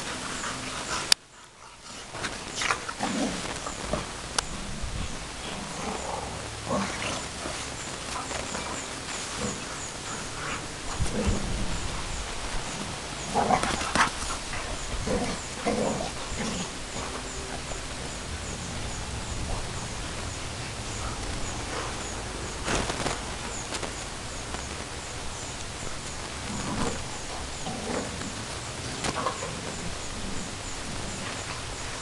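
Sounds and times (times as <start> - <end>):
dogs play-fighting: 0.0 - 32.0.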